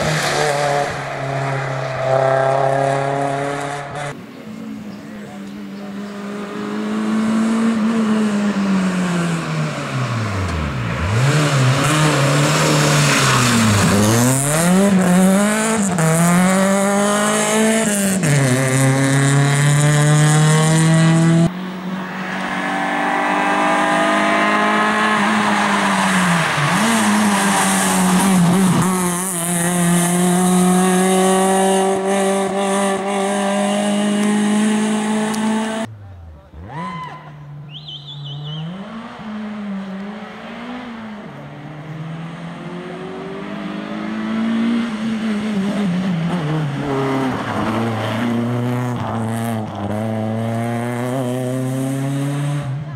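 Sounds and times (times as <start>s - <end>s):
rally car engine revving: 0.0s - 4.2s, 5.0s - 52.9s.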